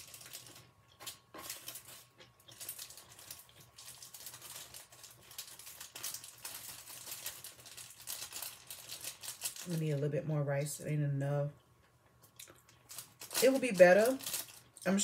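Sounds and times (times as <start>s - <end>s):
plastic bag crinkling: 0.0s - 10.3s, 12.2s - 15.0s.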